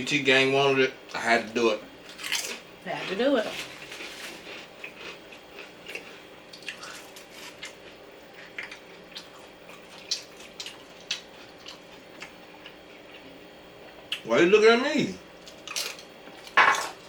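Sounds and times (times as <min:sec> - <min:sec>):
people chewing food: 0:00.0 - 0:14.3, 0:15.2 - 0:17.0.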